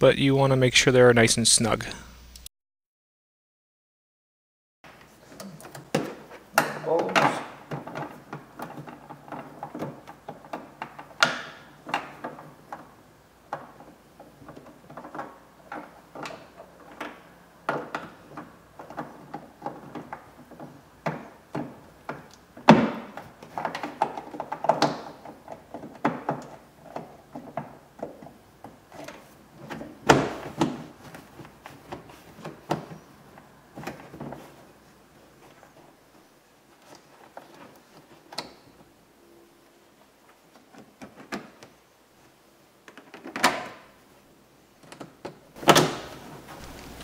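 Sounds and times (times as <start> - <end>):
knocks clicks and rustles: 4.9 - 39.0, 40.2 - 44.0, 44.8 - 47.0.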